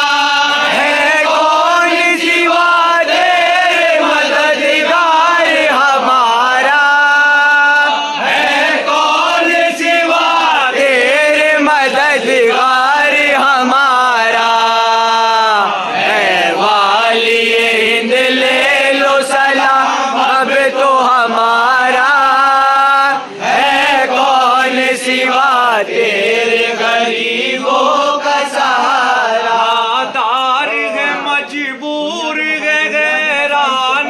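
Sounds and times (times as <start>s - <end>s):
men singing in unison: 0.0s - 34.0s.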